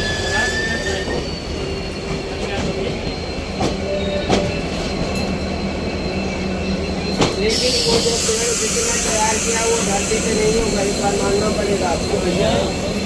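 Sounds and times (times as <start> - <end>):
train rumbling on rails: 0.0 - 13.0
wheel squeal: 0.0 - 13.0.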